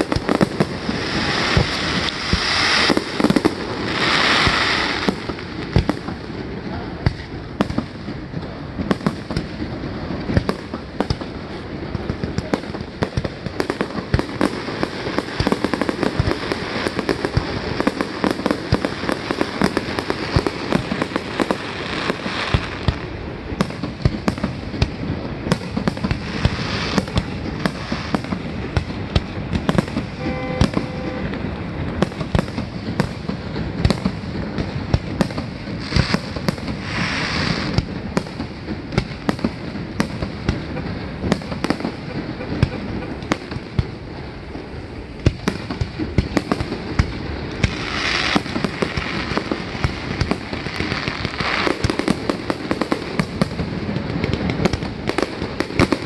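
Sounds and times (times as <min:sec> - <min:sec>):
fireworks bangs and crackles: 0:00.0 - 0:56.0
sharp loud fireworks reports: 0:00.0 - 0:56.0.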